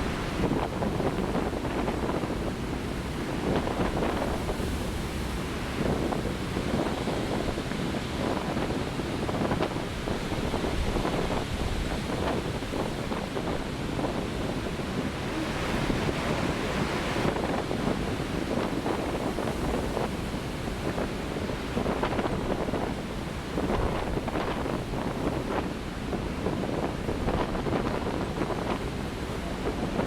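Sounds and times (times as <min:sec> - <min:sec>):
storm surf crashing: 0:00.0 - 0:30.0
wind buffeting microphone: 0:00.0 - 0:30.0.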